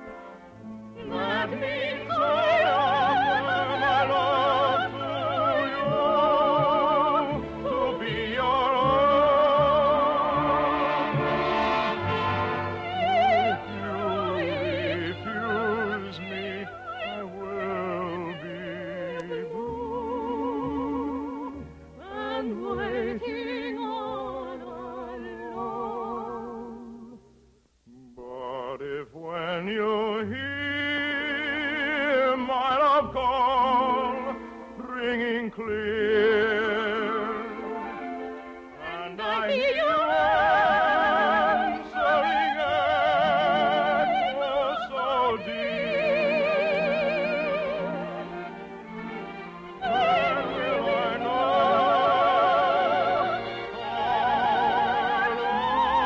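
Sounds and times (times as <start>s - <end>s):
orchestral accompaniment: 0.0s - 25.9s, 30.2s - 56.0s
operatic singing with vibrato: 0.0s - 56.0s.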